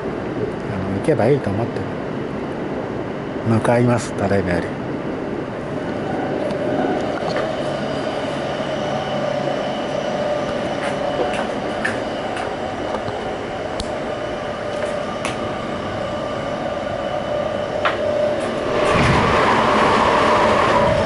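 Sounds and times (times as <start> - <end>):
electric train rolling noise: 0.0 - 21.0.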